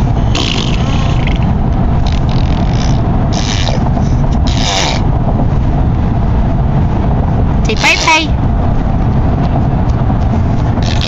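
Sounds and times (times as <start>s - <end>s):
car road noise inside cabin: 0.0s - 11.0s.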